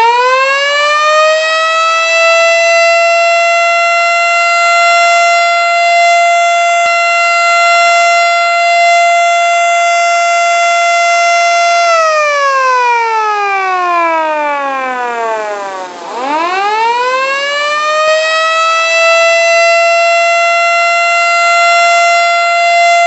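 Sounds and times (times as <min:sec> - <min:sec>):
siren wailing: 0:00.0 - 0:23.0.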